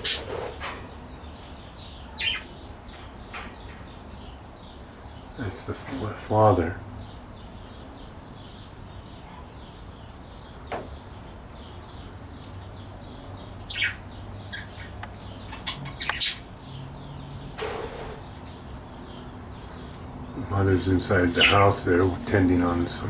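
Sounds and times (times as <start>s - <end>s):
parakeets chirping: 0.0s - 23.0s.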